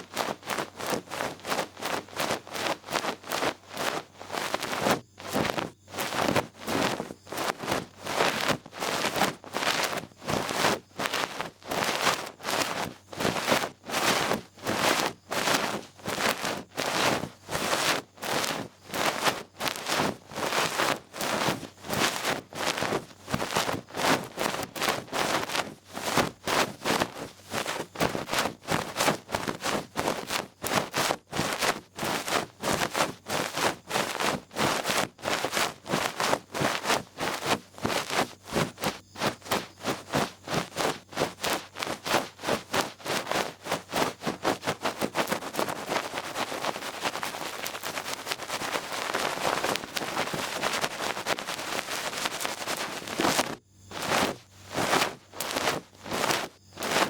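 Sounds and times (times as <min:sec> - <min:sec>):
ear pick brushing microphone: 0:00.0 - 0:57.0.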